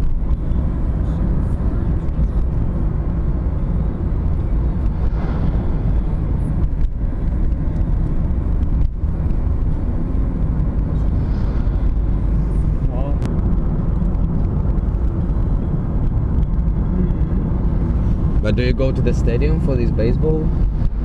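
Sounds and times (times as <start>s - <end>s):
moving vehicle rumble: 0.0s - 21.0s.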